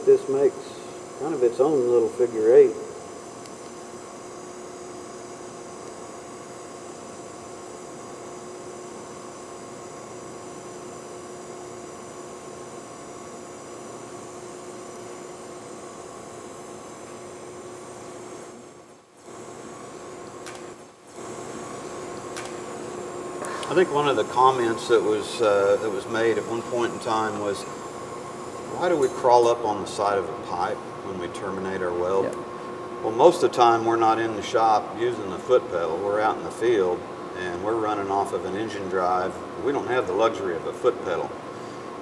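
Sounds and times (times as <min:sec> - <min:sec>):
faint hum: 0:00.0 - 0:42.0
welding arc hiss: 0:00.0 - 0:42.0.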